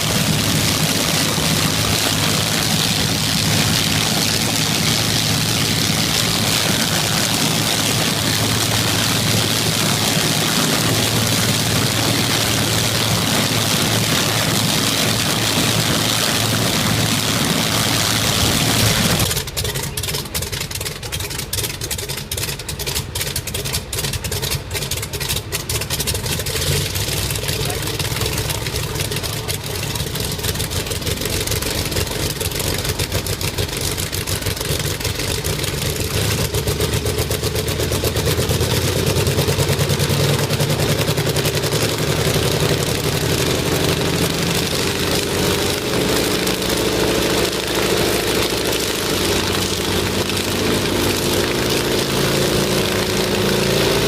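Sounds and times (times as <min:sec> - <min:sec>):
piston aero engine running: 0:00.0 - 0:54.0.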